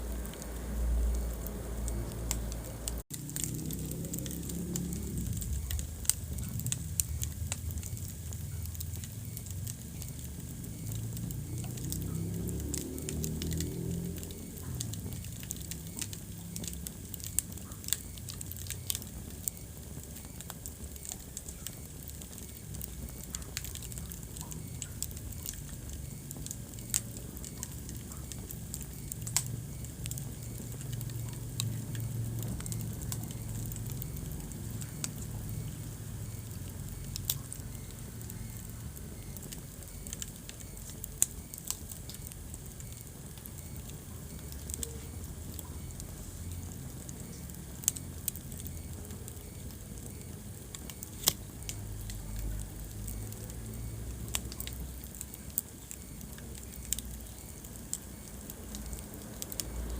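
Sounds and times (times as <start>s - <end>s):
fire crackling and popping: 0.0s - 59.9s
flames rumbling: 0.0s - 59.9s.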